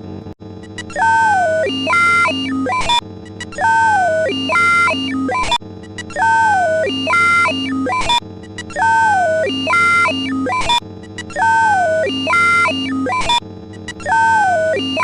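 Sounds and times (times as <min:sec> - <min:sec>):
looping electronic sound effect: 0:00.6 - 0:15.0.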